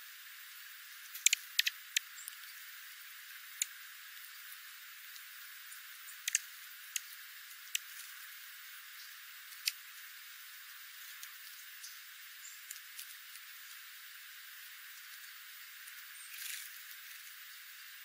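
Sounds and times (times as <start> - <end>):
faint steady hiss: 0.0 - 18.0
birds pecking seed on gravel: 1.0 - 17.5.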